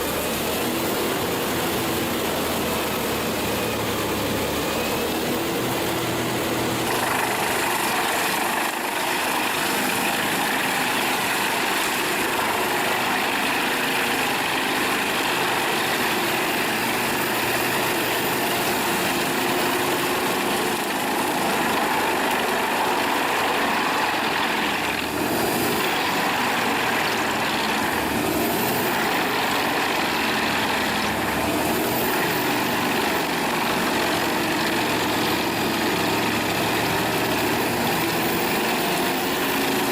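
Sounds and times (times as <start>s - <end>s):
wood chipper engine running: 0.0s - 39.9s.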